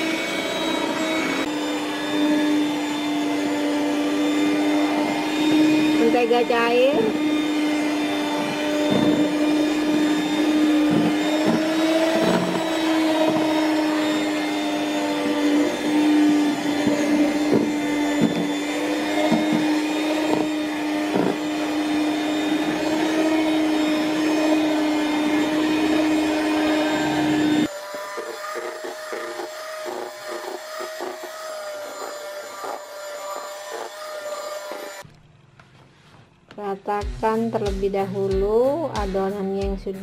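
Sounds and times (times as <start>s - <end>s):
electric hand mixer running: 0.0s - 35.1s.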